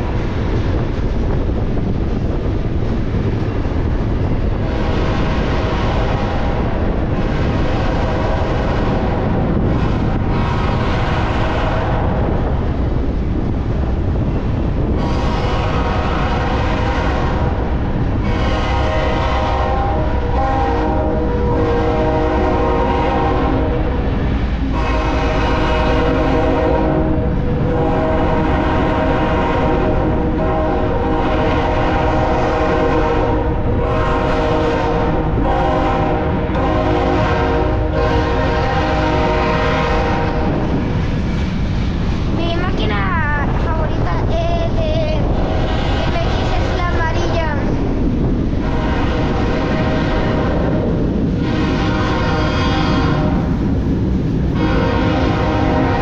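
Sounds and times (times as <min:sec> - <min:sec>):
freight locomotives rumbling past: 0:00.0 - 0:56.0
wind noise on microphone: 0:00.0 - 0:56.0.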